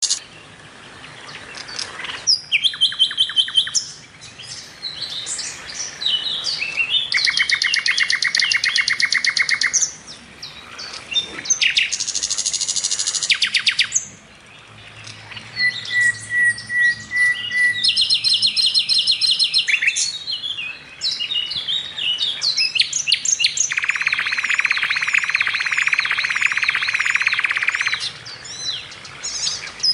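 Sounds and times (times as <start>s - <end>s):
songbird singing trills: 0.0s - 29.9s.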